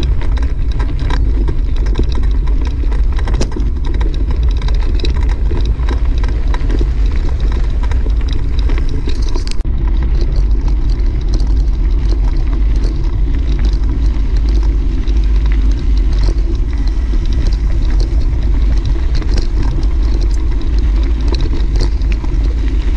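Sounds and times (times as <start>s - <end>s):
tyres crunching over gravel: 0.0s - 22.9s
wind buffeting microphone: 0.0s - 22.9s.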